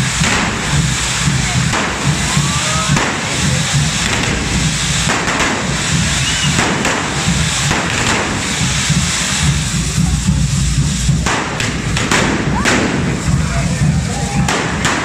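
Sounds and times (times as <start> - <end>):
firework fountains hissing: 0.0 - 15.0
sharp firework cracks: 0.0 - 15.0.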